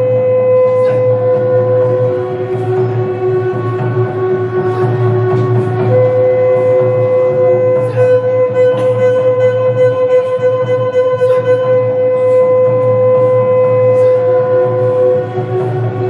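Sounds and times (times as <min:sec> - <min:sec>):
percussive strikes: 0:00.0 - 0:16.0
steady low drone: 0:00.0 - 0:16.0
wind instrument long note: 0:00.0 - 0:16.0.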